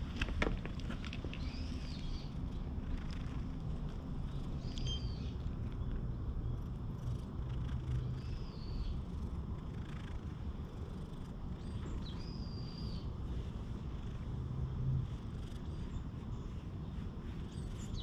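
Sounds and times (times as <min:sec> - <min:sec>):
cat purring: 0:02.7 - 0:18.0.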